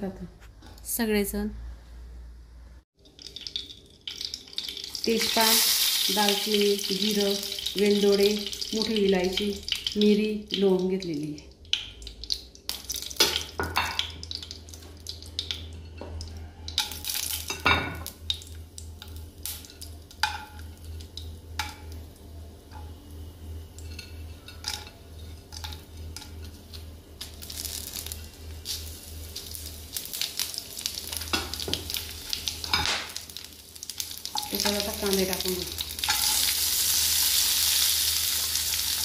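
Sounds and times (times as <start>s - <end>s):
low steady hum: 0.0s - 37.2s
spices sizzling and popping in oil: 2.9s - 39.0s.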